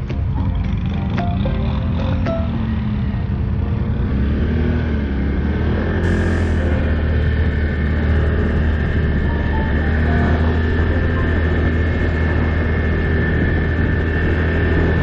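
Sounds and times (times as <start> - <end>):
atv engine humming and whining: 0.0 - 15.0.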